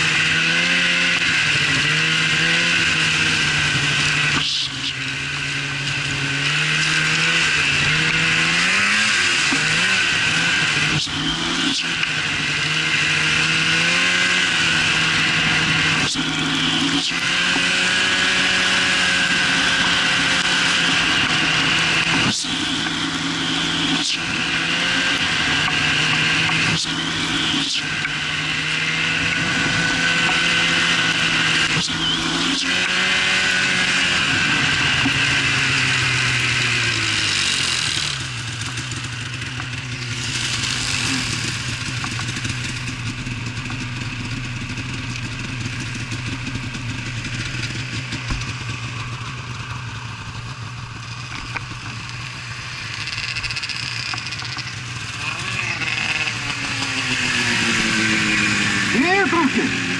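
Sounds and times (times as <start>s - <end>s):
snowmobile approaching: 0.0s - 59.9s
snowmobile engine running: 0.0s - 59.9s.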